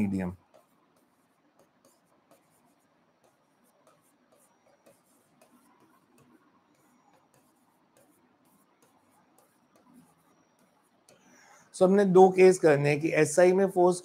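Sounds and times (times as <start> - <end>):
stylus tapping on touchscreen: 0.0 - 11.5.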